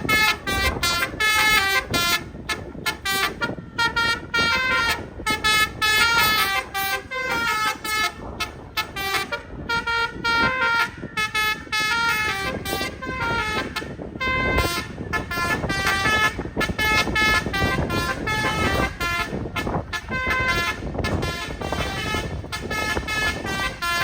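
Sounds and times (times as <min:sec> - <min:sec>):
multi-tone bus horn melody: 0:00.0 - 0:24.0.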